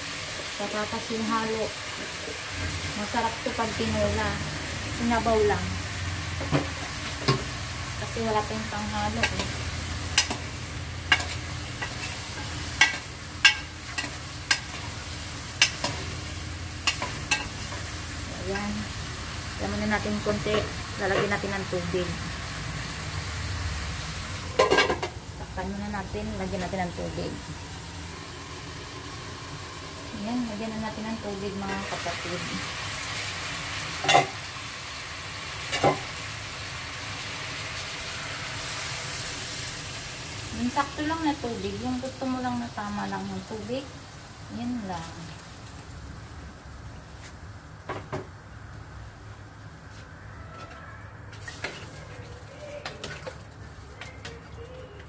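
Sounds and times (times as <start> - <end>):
chicken sizzling: 0.0 - 55.0.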